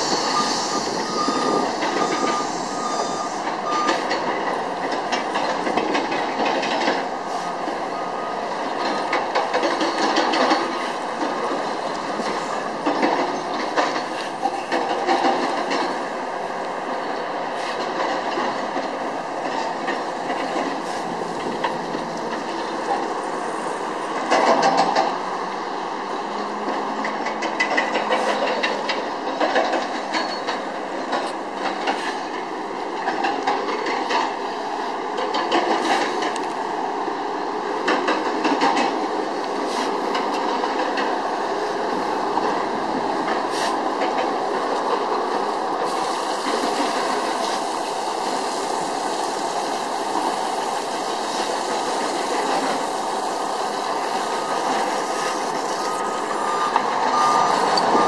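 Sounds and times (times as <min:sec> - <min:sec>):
heavy machinery running: 0:00.0 - 0:58.0.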